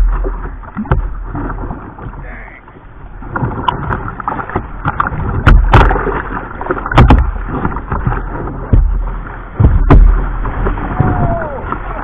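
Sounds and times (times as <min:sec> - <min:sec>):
water splashing against kayak: 0:00.0 - 0:12.0.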